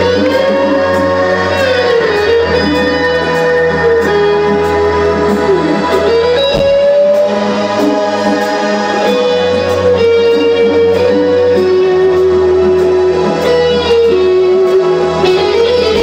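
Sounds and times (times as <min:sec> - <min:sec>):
bass guitar: 0:00.0 - 0:16.0
drums with cymbal beat: 0:00.0 - 0:16.0
electric guitar lead bending notes: 0:00.0 - 0:16.0.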